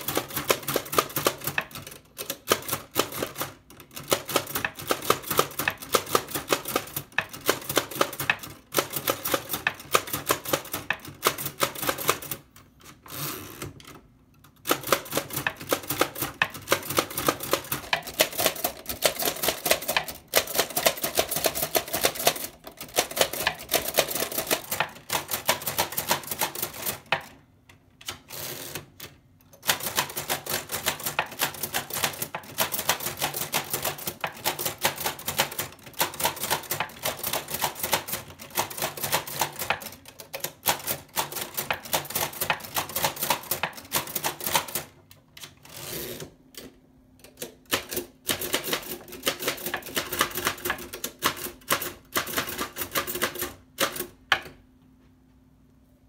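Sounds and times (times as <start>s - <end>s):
typewriter typing fast: 0.0s - 13.7s, 14.6s - 27.4s, 28.1s - 45.0s, 47.4s - 54.2s.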